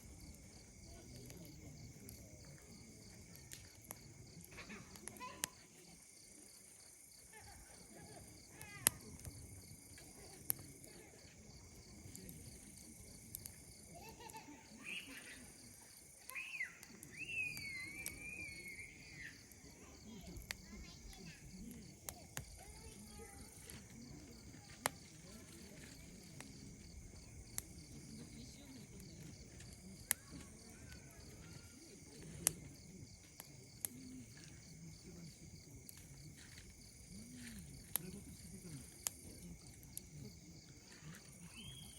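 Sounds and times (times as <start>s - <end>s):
campfire popping: 0.0s - 41.9s
crickets chirring: 0.0s - 41.9s.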